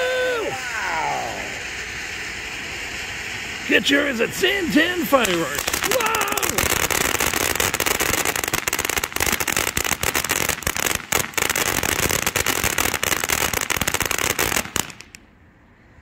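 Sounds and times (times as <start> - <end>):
firework fountain hissing and crackling: 0.0 - 15.4.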